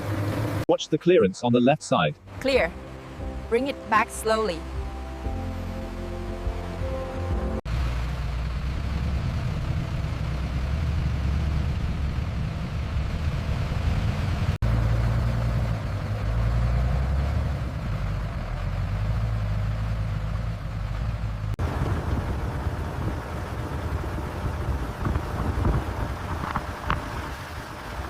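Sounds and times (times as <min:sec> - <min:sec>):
heavy vehicle engine rumbling: 0:00.0 - 0:28.0.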